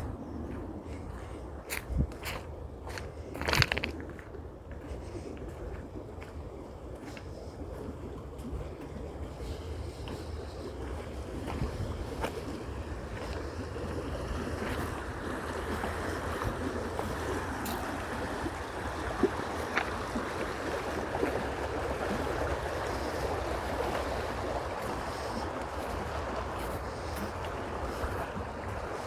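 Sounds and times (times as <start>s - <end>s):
creek water running: 0.0s - 29.0s
wind rumble on microphone: 0.0s - 29.0s.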